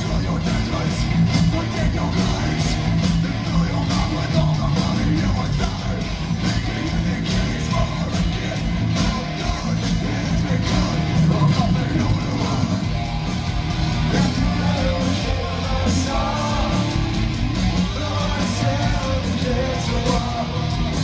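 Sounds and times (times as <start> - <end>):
distorted electric guitars: 0.0 - 21.0
drums: 0.0 - 21.0
yelled vocals: 0.0 - 21.0.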